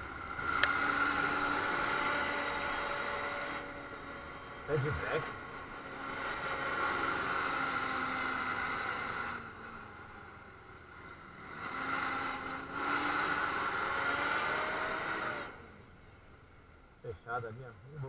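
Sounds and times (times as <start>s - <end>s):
faint engine tone: 0.0s - 18.0s
vehicle road noise on wet streets: 0.0s - 18.0s.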